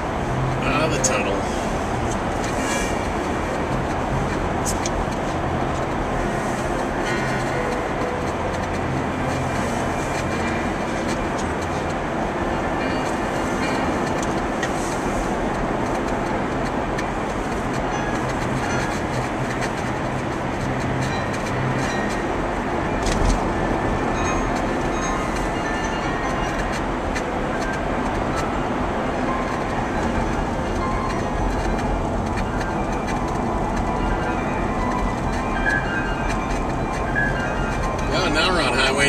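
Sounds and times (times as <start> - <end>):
car tyre and engine rumble: 0.0 - 39.0.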